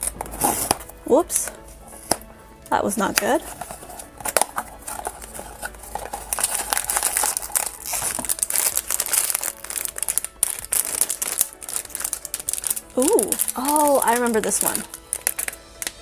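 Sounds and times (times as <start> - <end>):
foil bag crinkling and tearing: 3.0 - 16.0.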